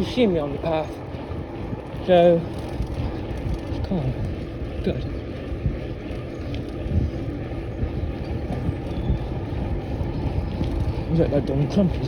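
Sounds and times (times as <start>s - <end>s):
bicycle riding rumble: 0.0s - 12.0s
wind buffeting microphone: 0.0s - 12.0s.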